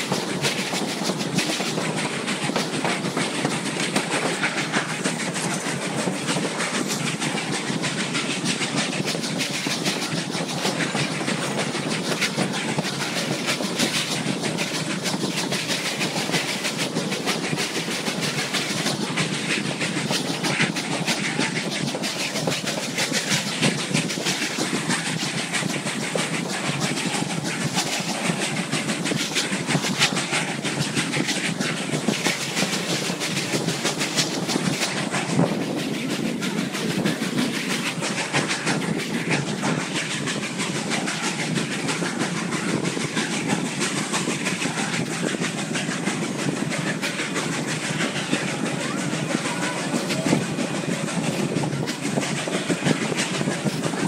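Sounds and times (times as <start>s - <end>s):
wheels on rails clicking rattling: 0.0s - 54.0s.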